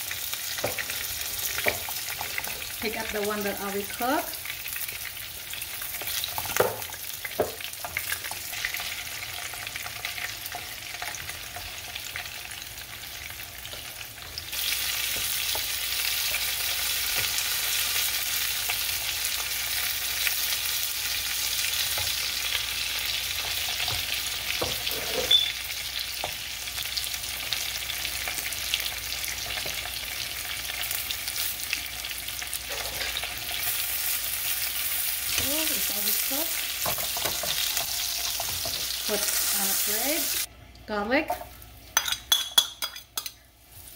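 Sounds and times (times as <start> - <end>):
shrimp frying in hot oil: 0.0 - 40.5.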